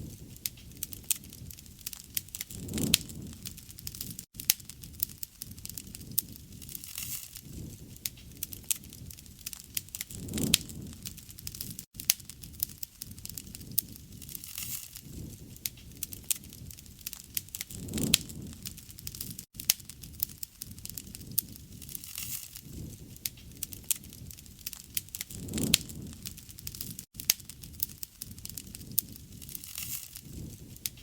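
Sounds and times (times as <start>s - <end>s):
campfire crackling and popping: 0.0s - 31.0s
low rumble of flames: 0.0s - 31.0s.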